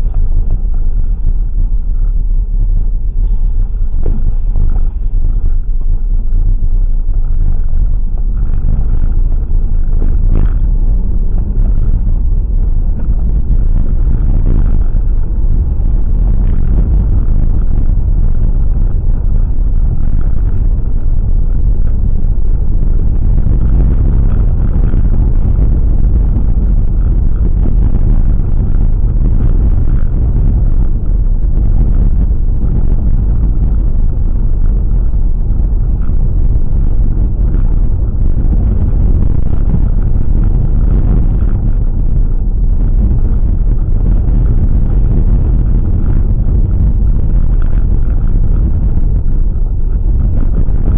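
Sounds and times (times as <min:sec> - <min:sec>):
car driving rumble: 0:00.0 - 0:50.9.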